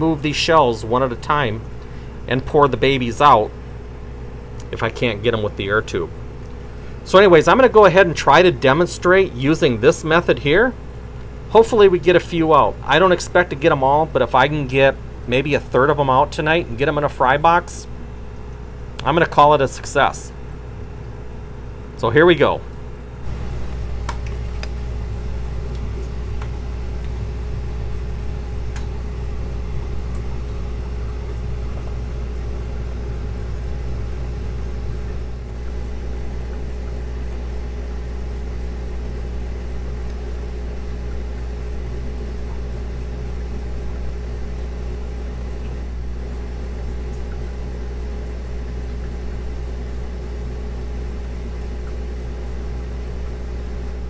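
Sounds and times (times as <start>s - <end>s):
aquarium air pumps humming: 0.0s - 54.0s.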